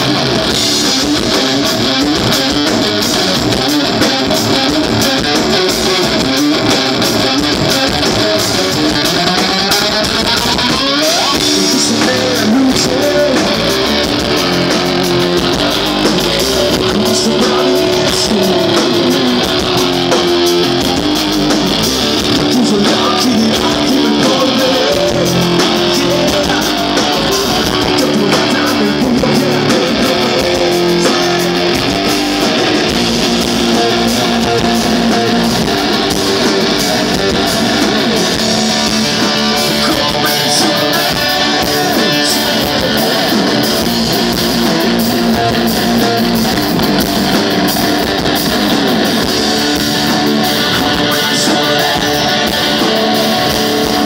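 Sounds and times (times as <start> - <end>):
live electric guitar blues-rock: 0.0 - 54.0.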